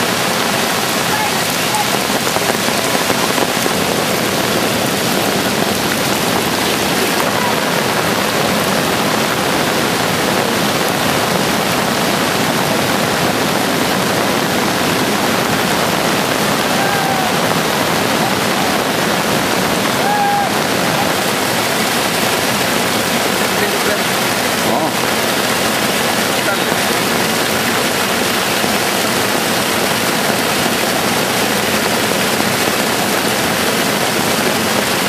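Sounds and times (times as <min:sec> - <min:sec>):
flooded river rushing: 0:00.0 - 0:35.0.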